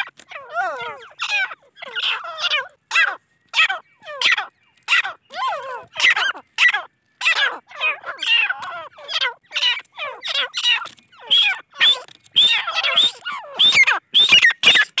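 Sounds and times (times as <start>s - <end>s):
birds chirping calls: 0.0s - 15.0s.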